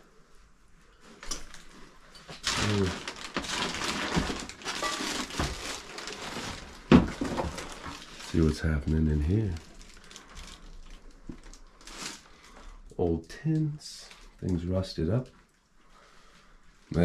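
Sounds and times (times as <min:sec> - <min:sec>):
rustling plastic bags: 0:01.0 - 0:15.6.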